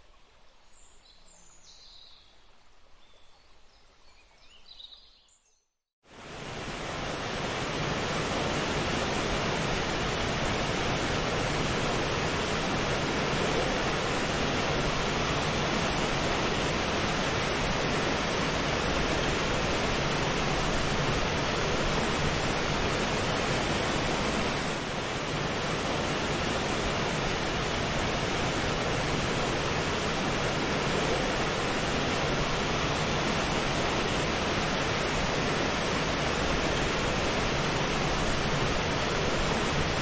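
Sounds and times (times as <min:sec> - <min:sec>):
rushing water: 0:06.1 - 0:40.0.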